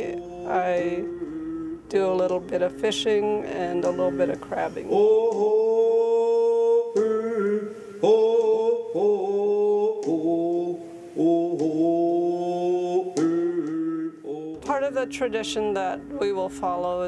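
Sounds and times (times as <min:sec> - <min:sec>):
chant-like singing: 0:00.0 - 0:17.0.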